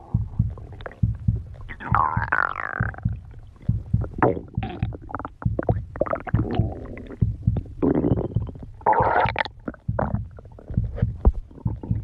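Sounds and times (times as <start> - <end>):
stomach growling: 0.0 - 12.0.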